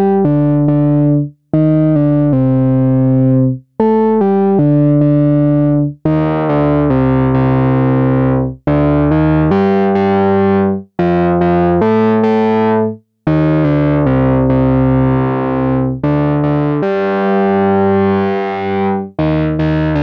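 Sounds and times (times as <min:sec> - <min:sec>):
synthesizer lead notes: 0:00.0 - 0:20.0.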